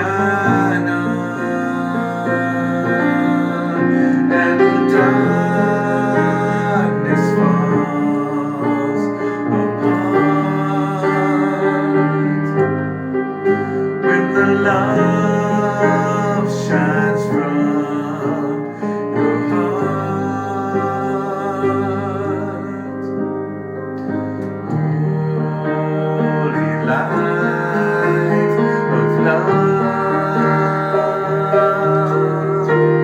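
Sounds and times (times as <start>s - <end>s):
piano accompaniment: 0.0s - 33.0s
slow devotional chant: 0.0s - 33.0s.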